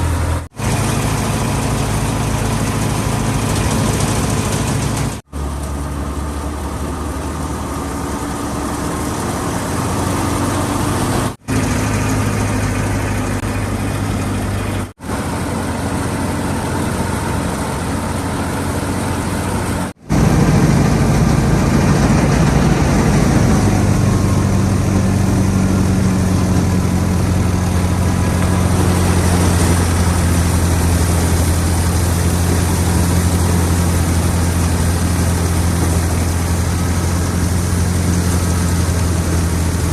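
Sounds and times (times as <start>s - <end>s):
thresher running: 0.0s - 39.9s
tractor diesel engine under load: 0.0s - 39.9s.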